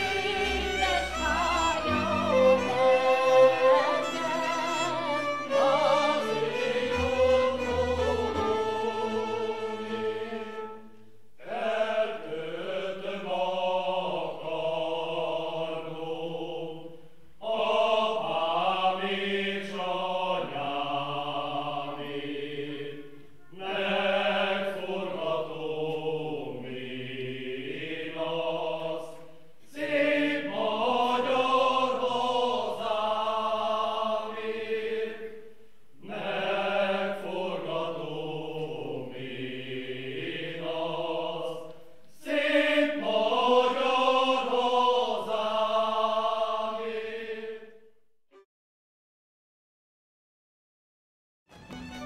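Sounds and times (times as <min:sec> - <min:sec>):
men's choir singing folk song: 0:00.0 - 0:47.9.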